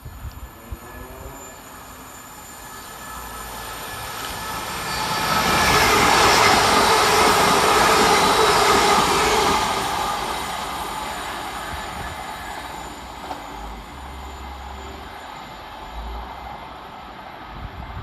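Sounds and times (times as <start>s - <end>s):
train wheels on rails: 0.0s - 18.0s.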